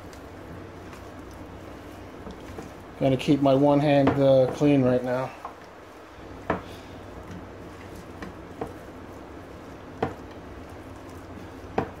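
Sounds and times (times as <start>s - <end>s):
hand squishing raw meat: 0.0s - 12.0s.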